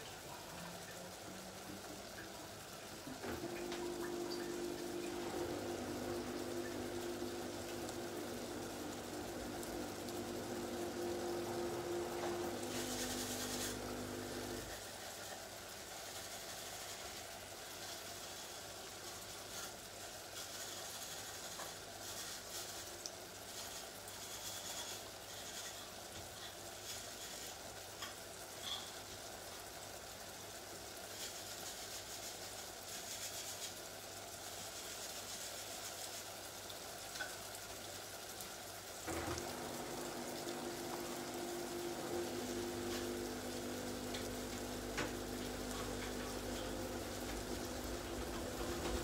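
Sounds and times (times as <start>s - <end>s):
mechanical hum: 0.0s - 49.0s
pots cooking hiss and crackle: 0.0s - 49.0s.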